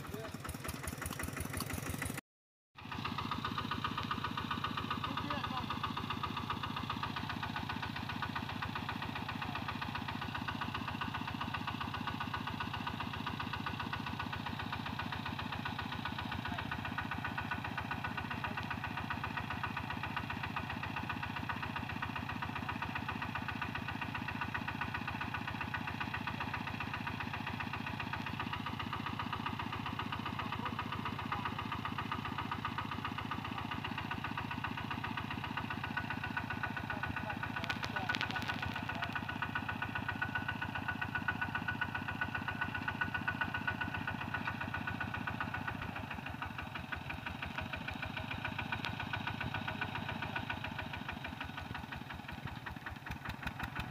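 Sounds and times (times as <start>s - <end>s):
diesel engine running: 0.0s - 2.2s, 2.8s - 53.9s.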